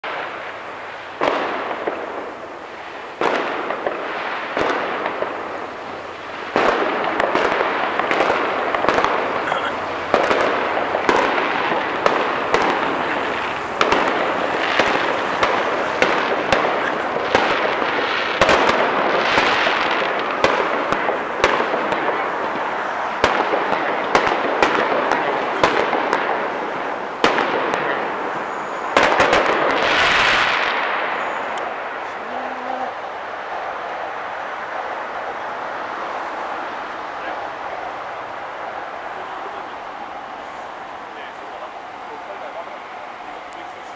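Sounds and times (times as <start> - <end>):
fireworks bangs: 0.0 - 43.9
fireworks crackle: 0.0 - 43.9.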